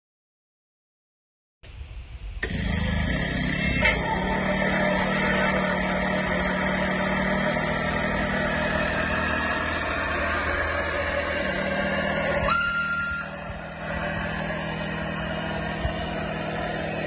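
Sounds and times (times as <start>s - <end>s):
small diesel engine humming: 2.4s - 17.0s.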